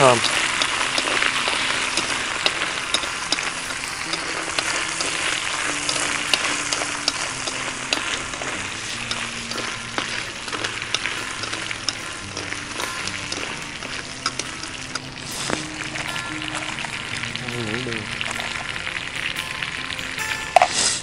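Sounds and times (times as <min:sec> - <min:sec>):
crabs sizzling in oil: 0:00.0 - 0:21.0.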